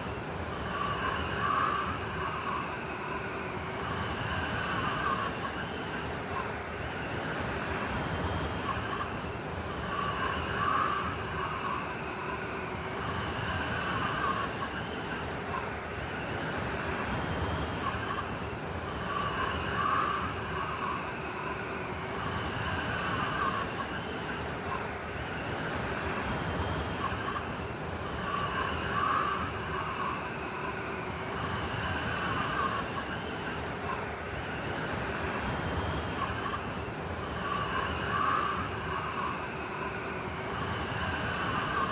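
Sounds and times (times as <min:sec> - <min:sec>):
blizzard wind whistling: 0:00.0 - 0:41.9.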